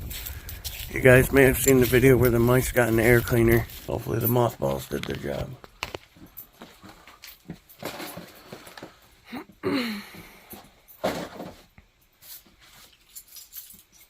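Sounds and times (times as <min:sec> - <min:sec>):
knocks and rustling of handling: 0:00.0 - 0:09.6, 0:10.2 - 0:14.0.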